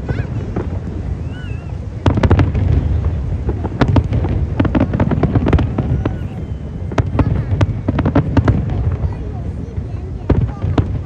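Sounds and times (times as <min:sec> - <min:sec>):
fireworks cracking: 0:00.0 - 0:11.0
low rumble of booms: 0:00.0 - 0:11.0.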